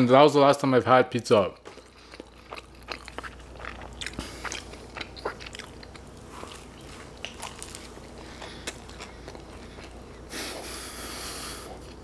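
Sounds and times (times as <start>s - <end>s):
chewing pizza crust: 1.3s - 12.0s.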